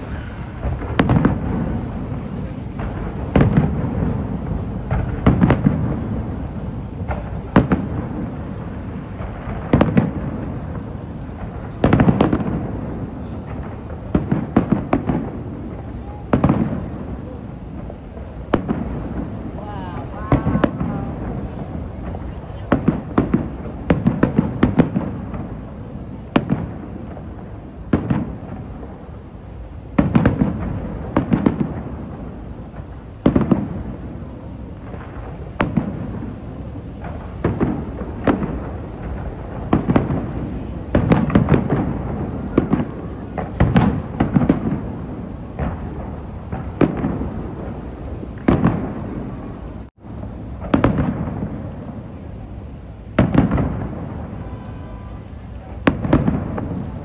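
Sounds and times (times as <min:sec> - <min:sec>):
fireworks booming: 0:00.0 - 0:57.0.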